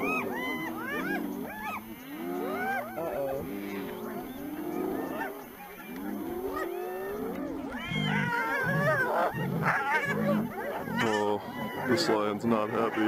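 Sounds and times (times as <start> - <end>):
hyenas calling: 0.0 - 13.0
lions growling and snarling: 0.0 - 13.0.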